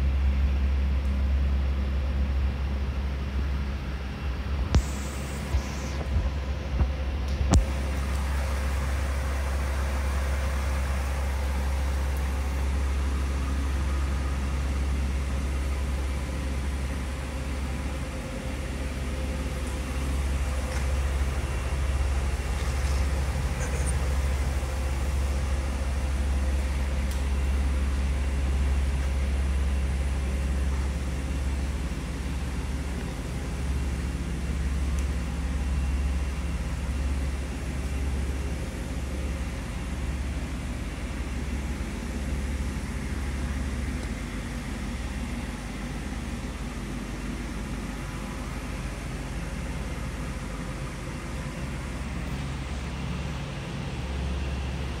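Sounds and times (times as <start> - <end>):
car engine idling: 2.2 - 55.0.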